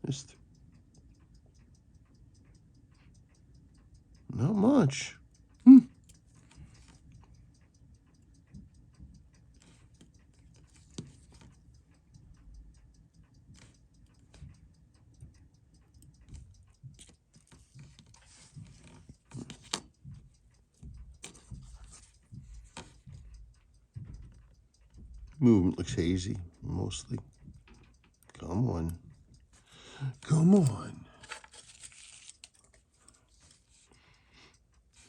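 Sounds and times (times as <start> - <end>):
metal tools tapping watch: 0.0 - 35.0
watch ticking: 0.0 - 35.0.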